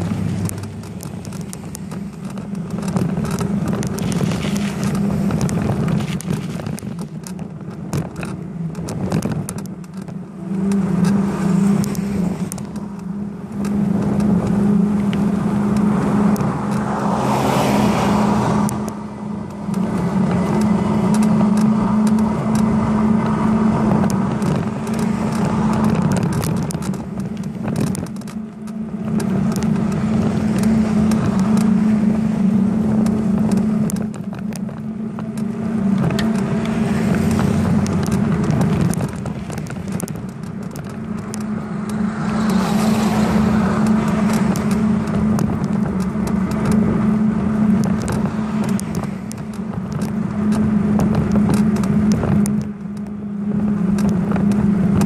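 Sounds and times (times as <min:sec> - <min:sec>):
bicycle tyres humming on road: 0:00.0 - 0:55.0.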